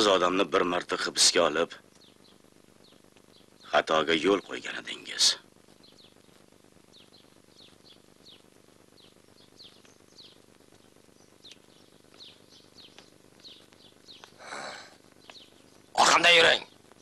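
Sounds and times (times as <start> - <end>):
low background noise: 0.0 - 17.0
faint bird chirps: 1.7 - 16.9.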